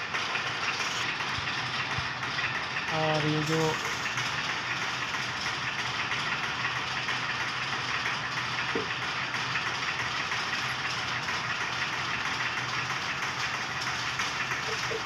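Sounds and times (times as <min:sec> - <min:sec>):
warping machine running: 0:00.0 - 0:15.0.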